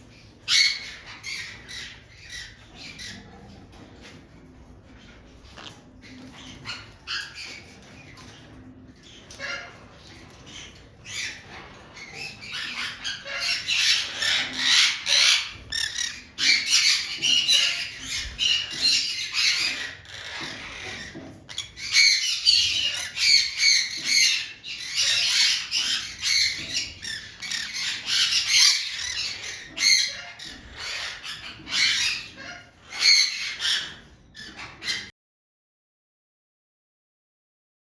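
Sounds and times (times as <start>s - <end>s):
birds squawking and chirping: 0.0s - 35.1s.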